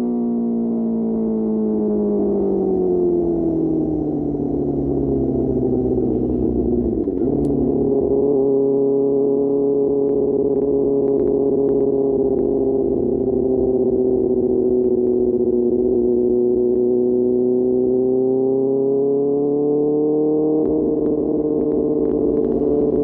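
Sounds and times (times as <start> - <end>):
motorcycle engine running: 0.8 - 23.0.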